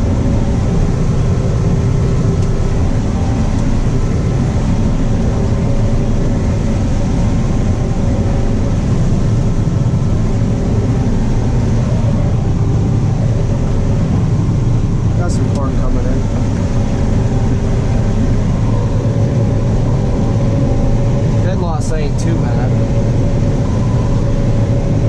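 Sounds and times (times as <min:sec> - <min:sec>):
combine harvester engine drone: 0:00.0 - 0:25.0
faint steady whining tones: 0:00.0 - 0:25.0.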